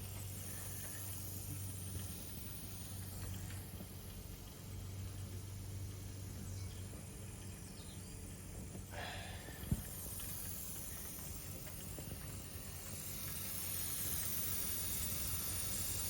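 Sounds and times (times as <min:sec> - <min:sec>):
boiler hissing steam: 0:00.0 - 0:16.0.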